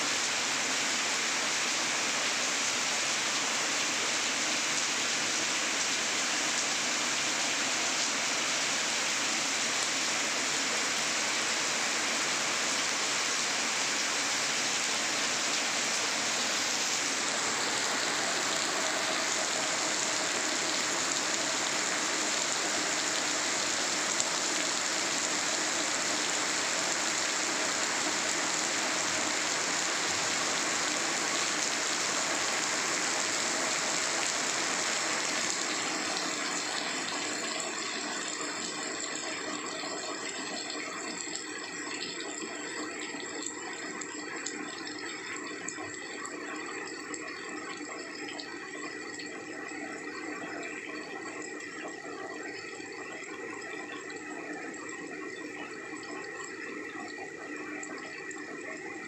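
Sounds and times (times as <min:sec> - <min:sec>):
heavy rain splashing into water: 0:00.0 - 0:51.6.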